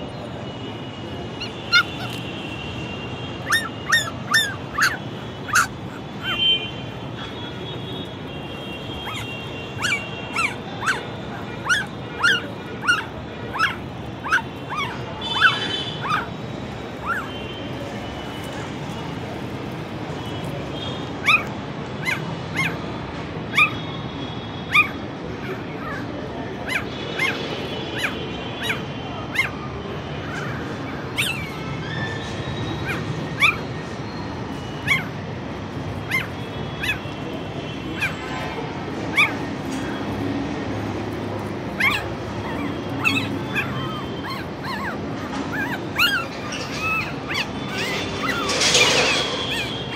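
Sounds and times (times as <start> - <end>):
puppy yelping: 1.3 - 2.5, 3.4 - 7.6, 8.9 - 17.5, 21.2 - 22.9, 23.5 - 23.9, 24.6 - 37.2, 37.9 - 49.9.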